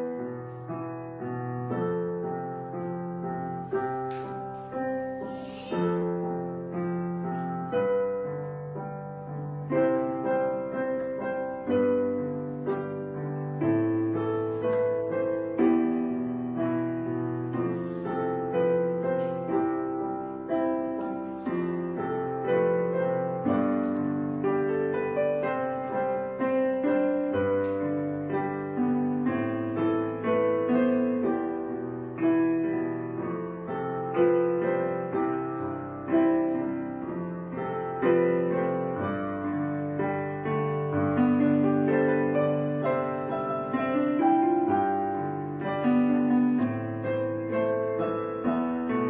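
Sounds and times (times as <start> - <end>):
piano music: 0.0 - 49.0.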